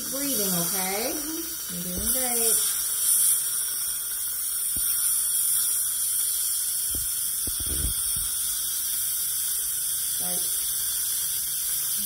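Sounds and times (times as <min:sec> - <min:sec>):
dental suction hissing: 0:00.0 - 0:12.0.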